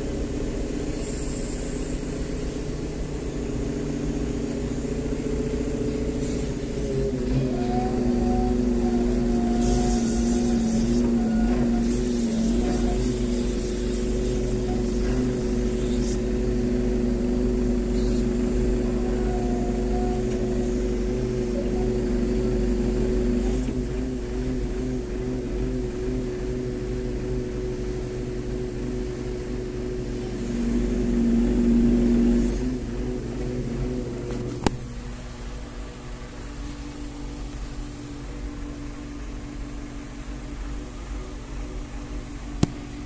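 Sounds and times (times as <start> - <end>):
crane engine droning: 0.0 - 43.0.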